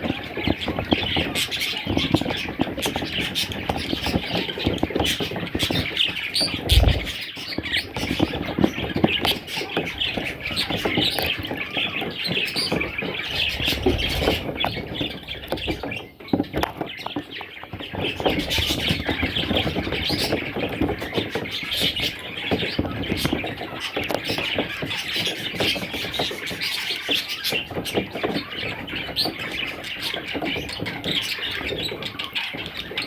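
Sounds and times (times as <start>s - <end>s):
budgerigar chicks calling: 0.1s - 33.0s.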